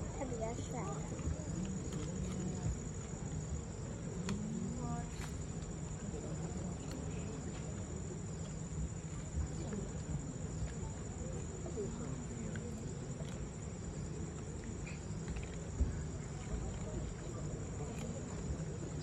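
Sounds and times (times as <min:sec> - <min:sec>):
insects trilling: 0:00.0 - 0:19.0
low background murmur: 0:00.0 - 0:19.0.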